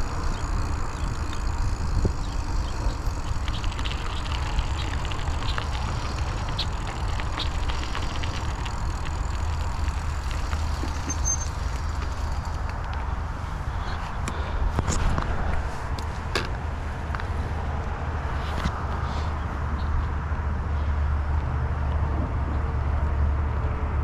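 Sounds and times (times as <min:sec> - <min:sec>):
bike clicks and rattles: 0:00.0 - 0:21.6
bike tyre noise on dirt: 0:00.0 - 0:22.4
wind on microphone: 0:00.0 - 0:23.2.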